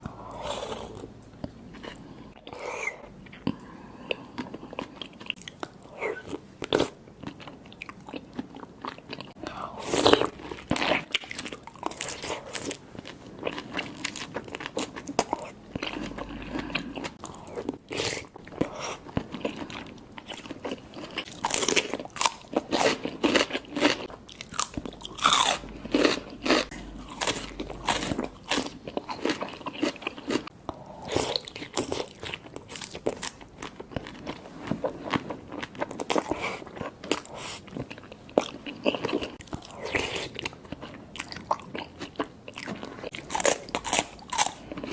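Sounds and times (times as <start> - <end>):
person biting and chewing food: 0.3 - 44.9.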